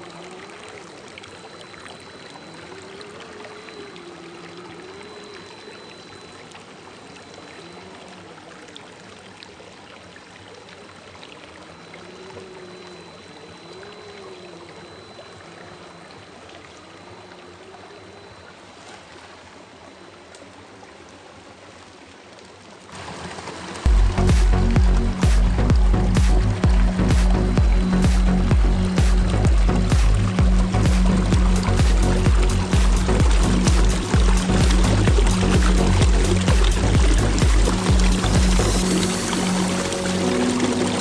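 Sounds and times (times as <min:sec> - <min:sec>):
creek rushing: 0:00.0 - 0:41.0.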